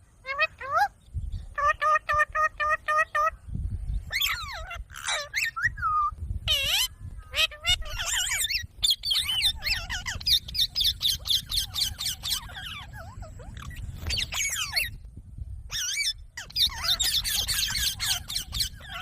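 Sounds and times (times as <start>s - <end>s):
parrot chirping and chattering: 0.2s - 3.3s, 4.0s - 5.8s, 6.4s - 15.1s, 15.7s - 19.0s.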